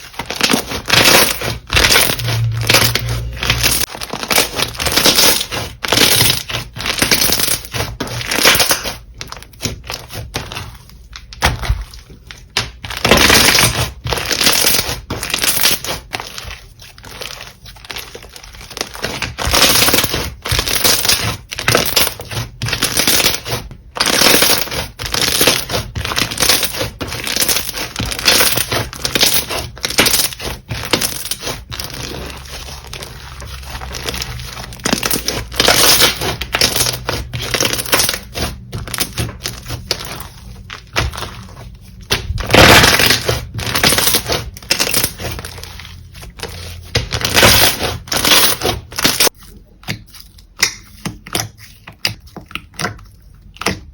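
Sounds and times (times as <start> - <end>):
slime squishing and crackling: 0.0 - 53.9.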